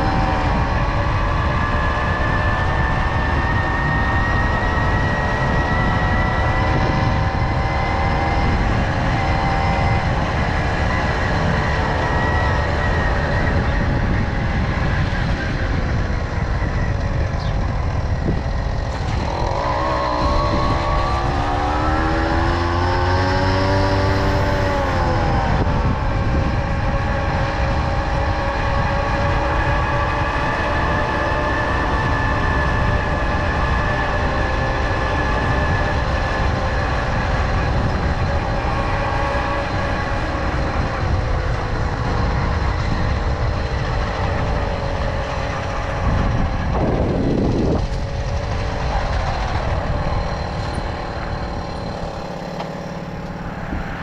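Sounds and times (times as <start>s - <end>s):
lower engine note passing: 0.0s - 54.0s
moped engine running: 0.0s - 54.0s
wind buffeting microphone: 0.0s - 54.0s.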